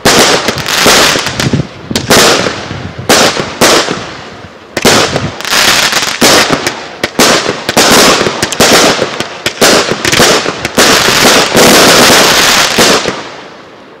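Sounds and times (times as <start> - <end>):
firework shots launching: 0.0 - 4.2, 4.8 - 13.5
firework bursts in the air: 0.0 - 13.5.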